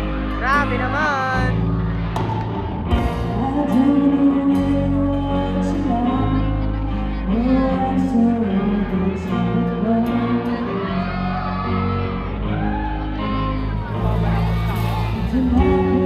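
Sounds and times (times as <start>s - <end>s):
live rock band playing: 0.0s - 16.0s
female lead singer: 2.9s - 16.0s.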